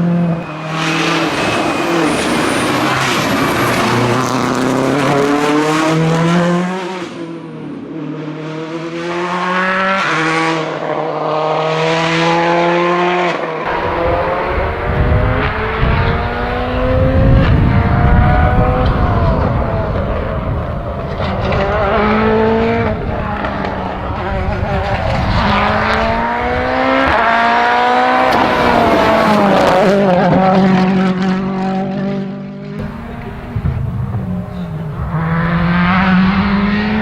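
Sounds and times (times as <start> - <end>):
rally car engine accelerating: 0.0 - 37.0.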